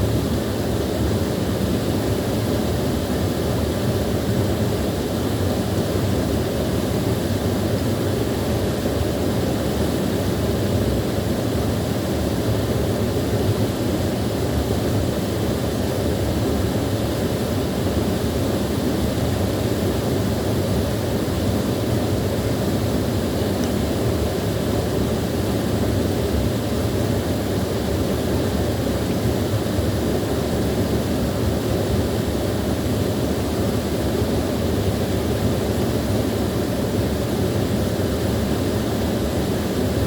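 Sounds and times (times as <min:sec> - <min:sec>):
small waterfall rushing: 0:00.0 - 0:40.0.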